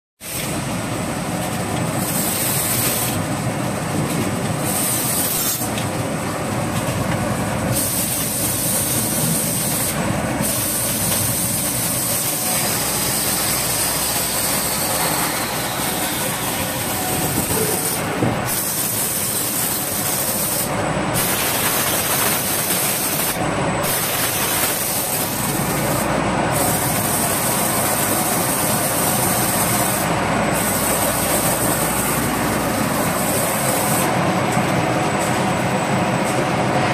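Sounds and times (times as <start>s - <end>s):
screen printing machine running: 0.2s - 36.9s.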